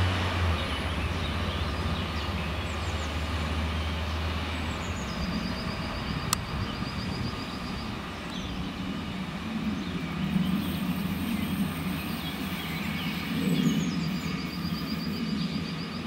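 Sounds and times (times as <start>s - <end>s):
diesel train rumbling: 0.0s - 16.0s
train wheels on rails: 0.0s - 16.0s.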